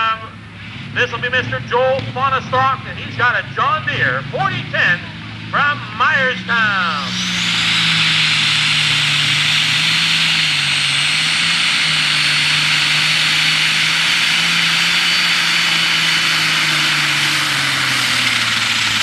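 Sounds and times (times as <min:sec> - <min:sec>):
tractor diesel engine roaring: 0:00.0 - 0:19.0
turbo whine: 0:02.8 - 0:19.0.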